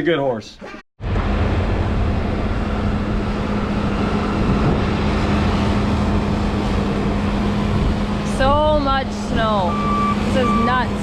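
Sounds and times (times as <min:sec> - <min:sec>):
diesel engine rumbling: 0:01.0 - 0:11.0.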